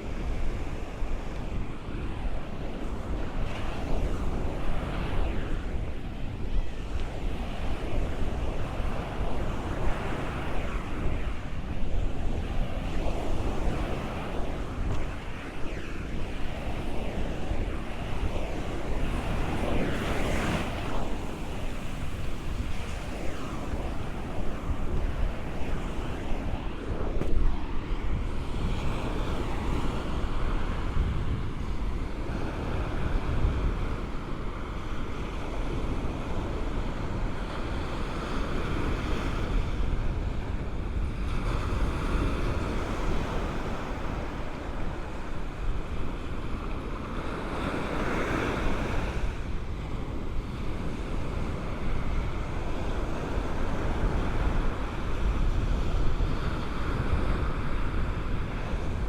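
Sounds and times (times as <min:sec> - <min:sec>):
ocean waves breaking on shore: 0:00.0 - 0:59.0
wind rumbling on microphone: 0:00.0 - 0:59.0.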